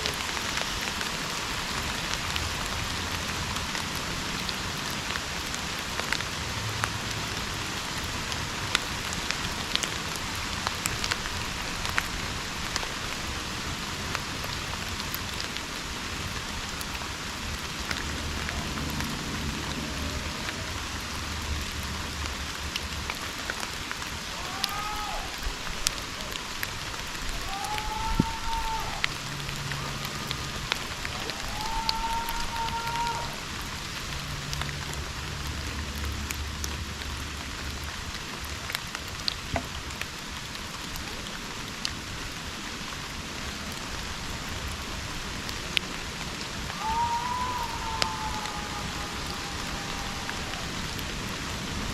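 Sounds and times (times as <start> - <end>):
rain hissing: 0.0 - 51.9
raindrops ticking: 0.0 - 51.9.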